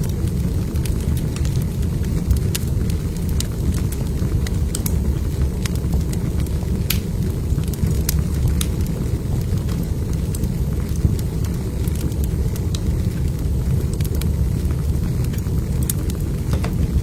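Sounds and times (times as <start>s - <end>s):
log fire crackling and popping: 0.0s - 17.0s.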